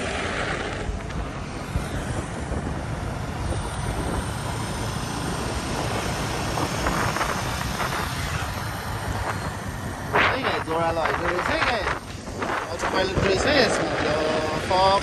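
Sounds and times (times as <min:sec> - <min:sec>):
motor traffic: 0:00.0 - 0:15.0
motorcycle passing close: 0:00.0 - 0:15.0
wind and road noise: 0:00.0 - 0:15.0.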